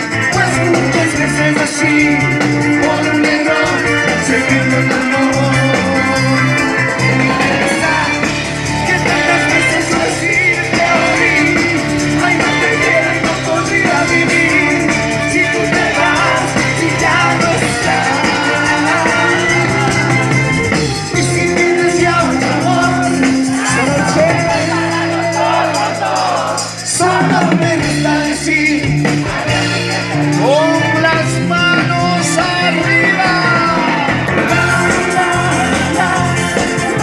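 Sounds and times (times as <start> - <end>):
drum kit: 0.0 - 37.0
electric bass: 0.0 - 37.0
guitar: 0.0 - 37.0.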